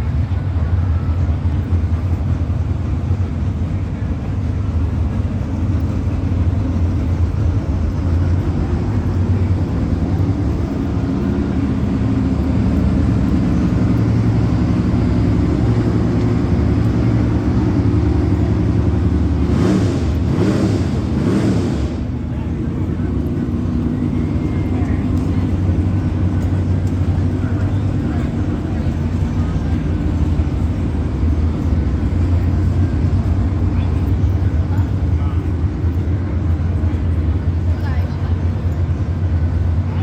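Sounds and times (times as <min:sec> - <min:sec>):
car engine running steadily: 0:00.0 - 0:40.0
vehicle passing: 0:06.0 - 0:40.0.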